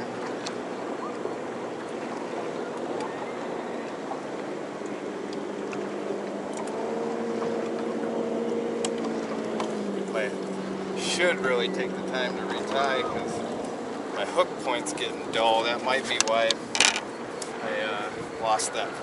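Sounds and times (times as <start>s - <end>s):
electric trolling motor humming: 0.0s - 19.0s
water noise: 0.0s - 19.0s.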